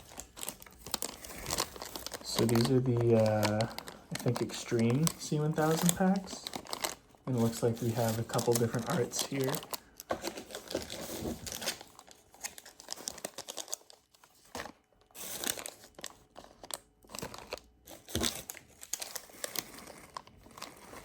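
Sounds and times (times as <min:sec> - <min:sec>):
plastic wrappers crinkling: 0:00.0 - 0:21.0.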